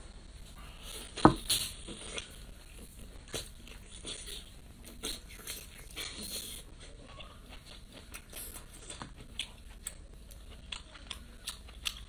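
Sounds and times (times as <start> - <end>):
biting and chewing food: 0.5 - 12.0
food crunching: 0.5 - 12.0.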